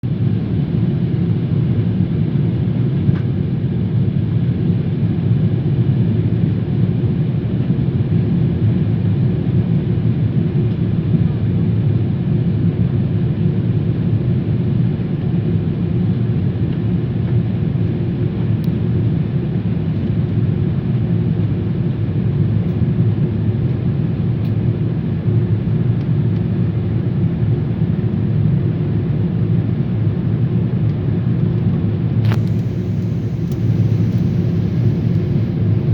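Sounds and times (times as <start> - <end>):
airliner cabin engine rumble: 0.1 - 35.9.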